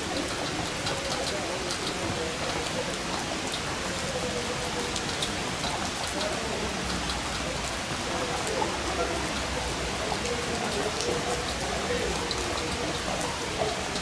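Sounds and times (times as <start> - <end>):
heavy rain falling: 0.0 - 14.0
raindrops ticking close by: 0.0 - 14.0.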